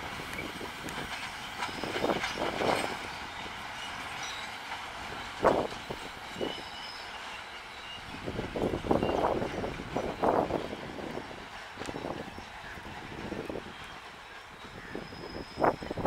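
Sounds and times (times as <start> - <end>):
freight train rumbling past: 0.0 - 16.0
wheels clanking over rail joints: 0.0 - 16.0.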